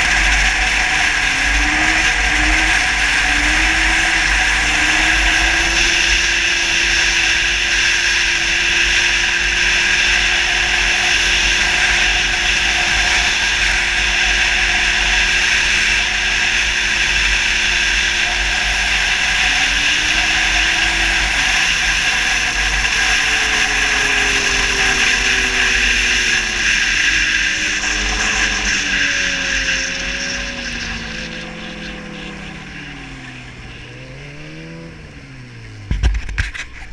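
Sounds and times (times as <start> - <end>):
snowmobile engine running: 0.0 - 36.9.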